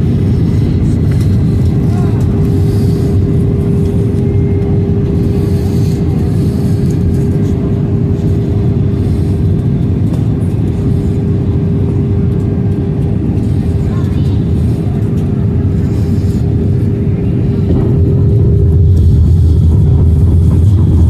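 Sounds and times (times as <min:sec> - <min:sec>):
airliner cabin engine rumble: 0:00.0 - 0:21.0
constant hum: 0:00.0 - 0:21.0.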